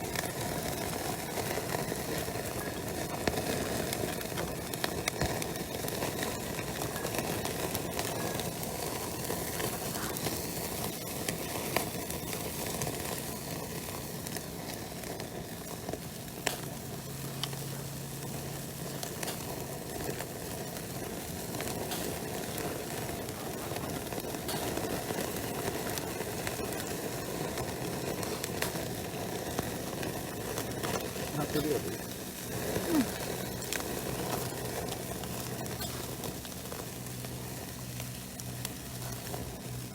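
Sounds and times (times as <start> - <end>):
fire crackles and pops: 0.0 - 39.9
wood fire hissing: 0.0 - 39.9.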